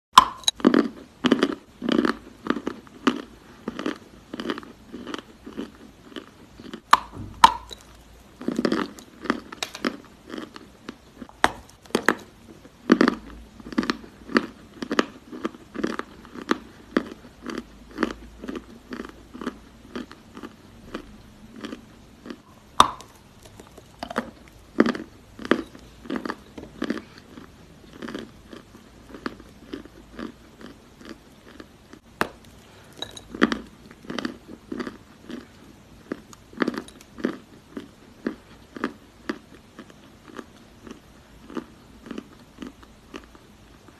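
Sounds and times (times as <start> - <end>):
crunchy chewing of clay: 0.2 - 43.9.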